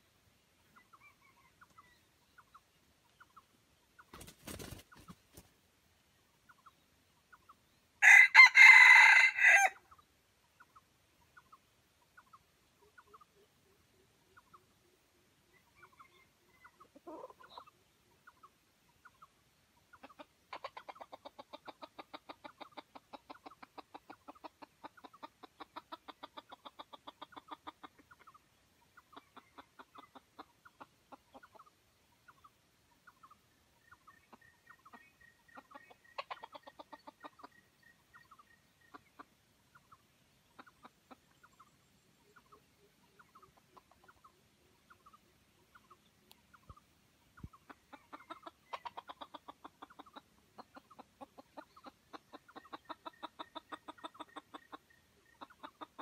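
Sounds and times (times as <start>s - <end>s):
junglefowl clucking: 0.6s - 5.5s, 6.4s - 56.0s.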